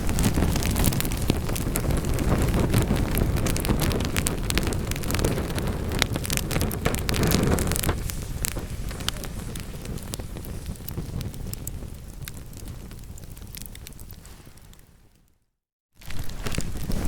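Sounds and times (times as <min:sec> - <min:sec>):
burning wood crackling and popping: 0:00.0 - 0:15.4, 0:16.0 - 0:17.0
rumble of fire flames: 0:00.0 - 0:15.4, 0:16.0 - 0:17.0.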